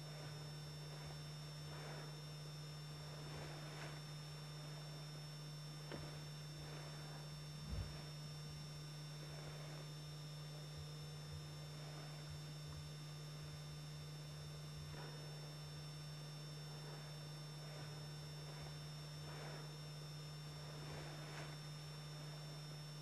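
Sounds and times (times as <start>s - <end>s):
faint hiss: 0.0s - 23.0s
faint soft rustles: 0.0s - 23.0s
low electrical hum: 0.0s - 23.0s
thin high whine: 0.0s - 23.0s.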